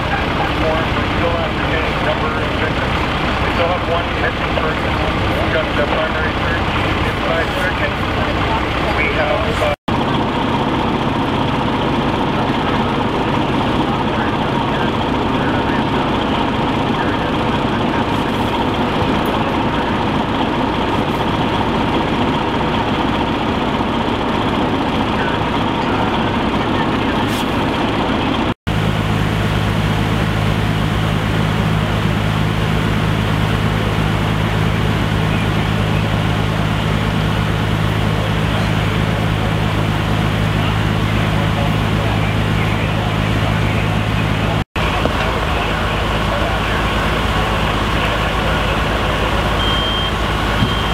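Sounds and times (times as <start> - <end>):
fire truck engines droning: 0.0 - 50.9.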